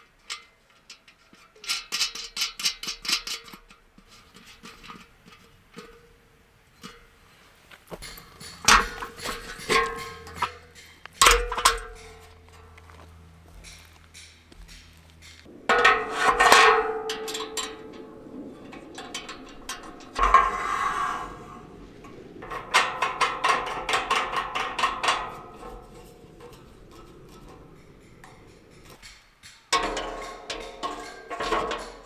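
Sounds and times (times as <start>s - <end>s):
scraping rustle: 3.4s - 32.0s
metal cookware clanking: 4.1s - 12.7s, 13.6s - 32.0s
rapid metal clattering: 4.1s - 12.8s, 13.5s - 32.0s.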